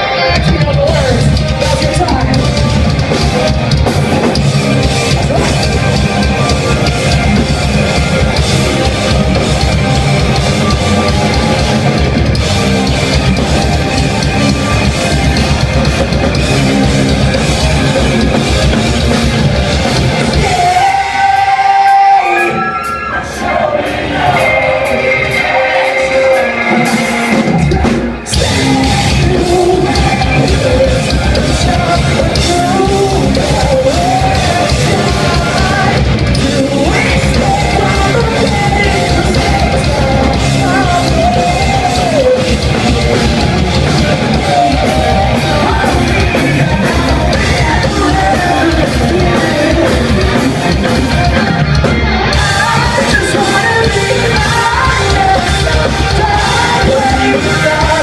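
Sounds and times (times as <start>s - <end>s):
heavy rock band playing: 0.0s - 58.0s
vocalist singing and yelling: 0.0s - 58.0s.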